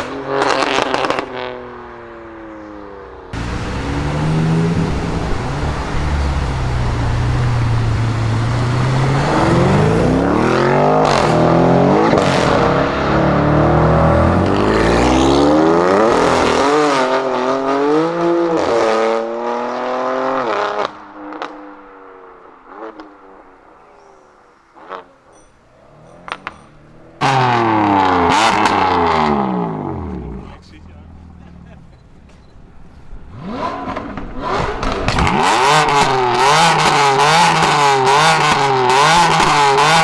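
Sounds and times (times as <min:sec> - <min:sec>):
car engine revving and accelerating: 0:00.0 - 0:01.8, 0:03.3 - 0:30.6, 0:33.2 - 0:40.0.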